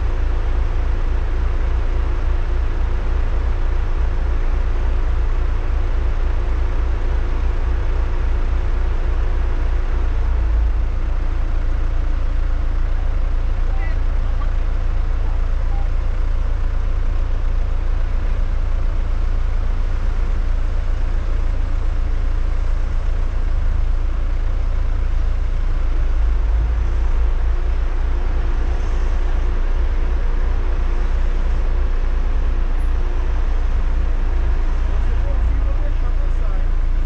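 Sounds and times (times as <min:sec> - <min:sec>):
off-road vehicle engines rumbling: 0:00.0 - 0:37.0.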